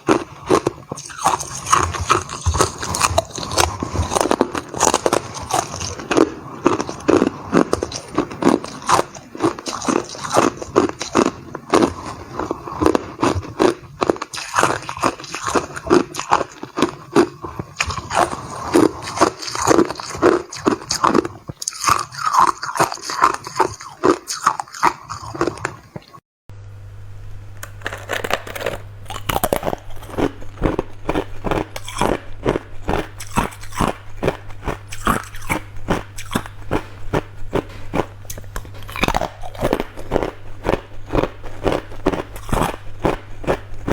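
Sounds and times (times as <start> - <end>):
ice being chewed: 0.0 - 26.2, 27.6 - 43.9.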